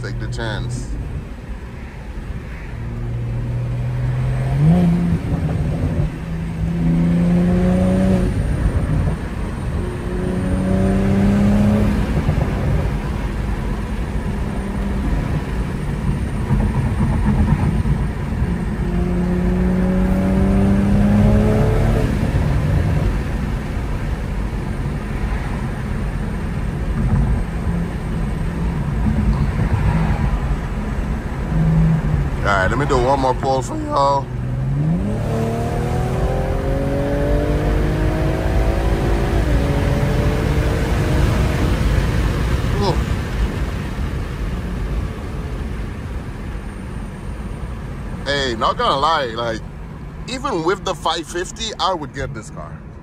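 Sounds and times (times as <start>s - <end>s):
car engine accelerating: 0.0s - 53.0s
road rumble: 0.0s - 53.0s.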